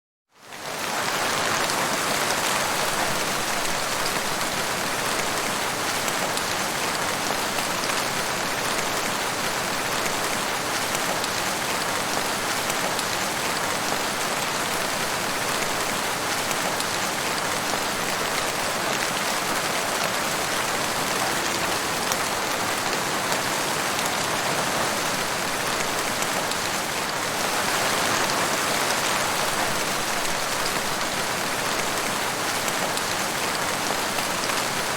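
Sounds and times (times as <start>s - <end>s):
steady rain: 0.3s - 34.9s.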